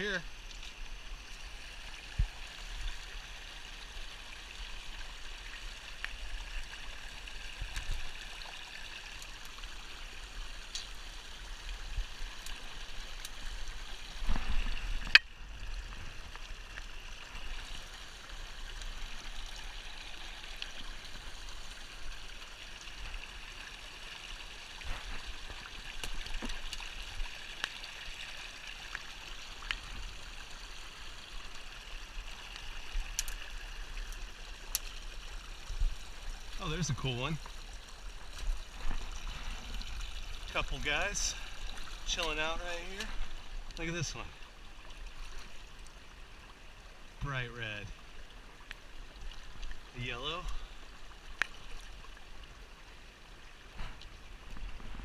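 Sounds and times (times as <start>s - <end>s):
creek trickling over stones: 0.0s - 55.0s.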